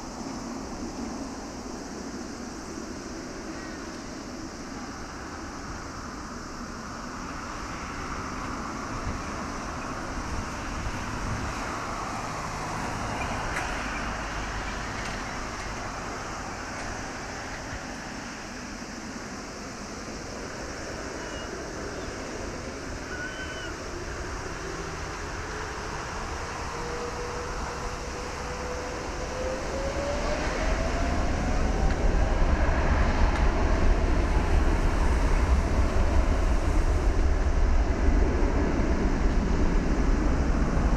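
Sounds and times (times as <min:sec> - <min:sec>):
jet engines spooling up: 0:00.1 - 0:40.9
engine whine rising in pitch: 0:08.1 - 0:40.9.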